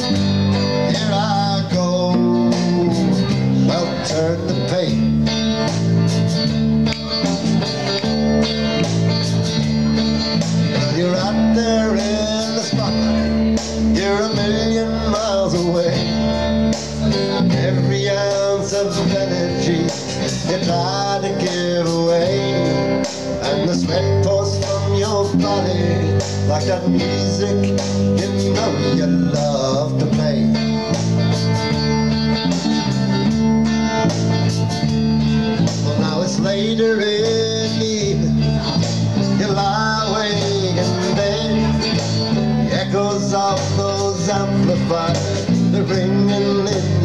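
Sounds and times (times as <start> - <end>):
electric bass line: 0.0 - 47.0
electric guitar lead: 0.0 - 47.0.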